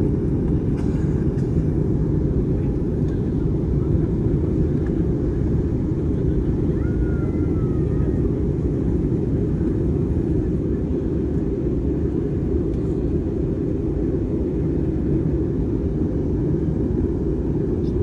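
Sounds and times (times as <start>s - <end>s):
jet engines roaring in cabin: 0.0s - 18.0s.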